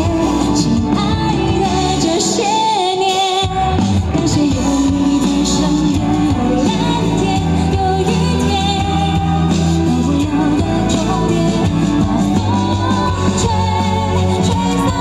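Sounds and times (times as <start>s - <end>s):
live pop band over pa: 0.0s - 15.0s
person singing: 0.0s - 15.0s.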